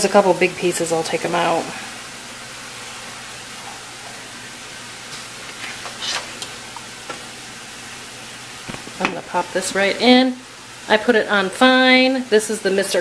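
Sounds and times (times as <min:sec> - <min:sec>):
room tone hiss: 0:00.0 - 0:13.0.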